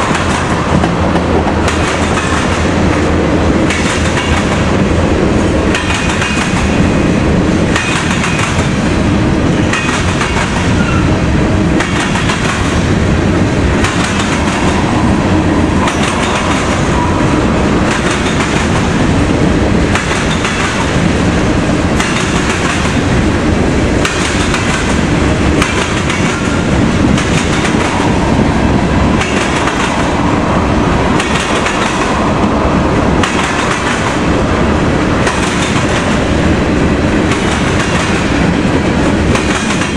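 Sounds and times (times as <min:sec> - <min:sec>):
train wheels clattering over crossing: 0:00.0 - 0:23.3, 0:24.0 - 0:32.5, 0:33.2 - 0:34.5, 0:35.1 - 0:39.9
freight train rolling roar: 0:00.0 - 0:39.9.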